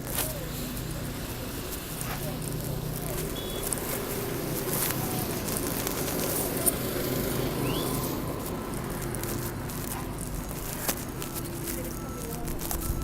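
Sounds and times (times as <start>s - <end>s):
low engine hum: 0.0s - 13.0s
traffic noise: 0.0s - 13.0s.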